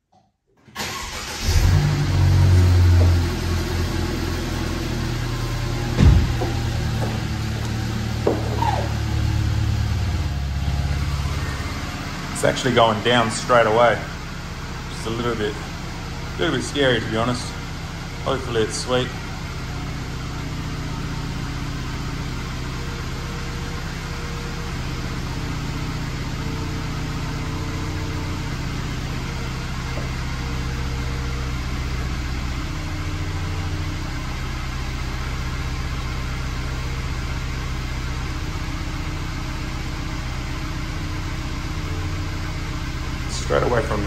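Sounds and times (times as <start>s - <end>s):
car engine idling: 0.8s - 44.0s.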